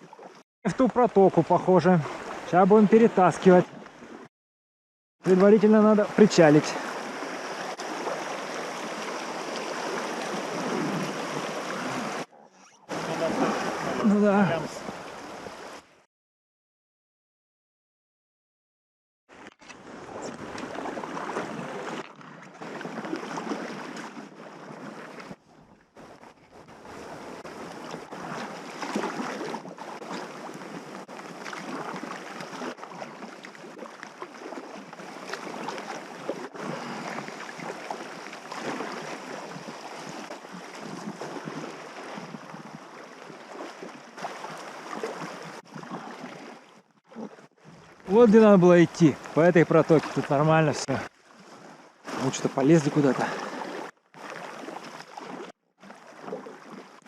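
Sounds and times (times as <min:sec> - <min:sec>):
rushing river water: 0:00.0 - 0:04.3, 0:05.2 - 0:16.0, 0:19.4 - 0:57.0.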